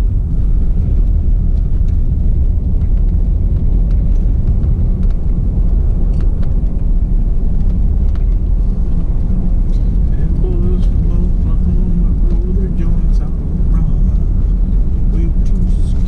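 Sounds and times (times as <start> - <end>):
car driving heard from inside: 0.0 - 16.0.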